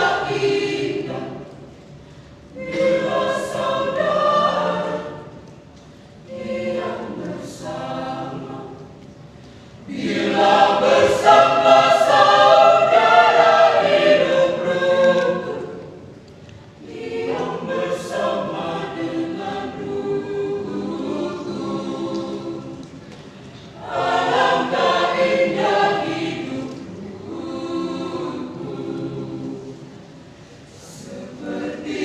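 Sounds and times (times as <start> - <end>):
church choir singing: 0.0 - 1.8, 2.5 - 9.1, 9.8 - 32.0.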